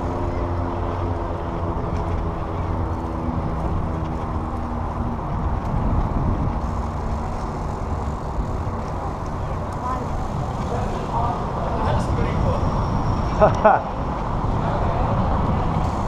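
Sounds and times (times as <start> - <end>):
diesel locomotive engine drone: 0.0 - 16.0
wind rumble on microphone: 0.0 - 16.0.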